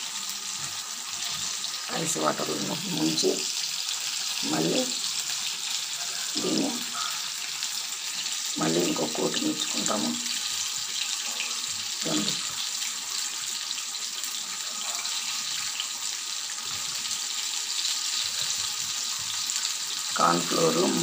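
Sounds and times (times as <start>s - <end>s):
chicken deep-frying in oil: 0.0s - 21.0s.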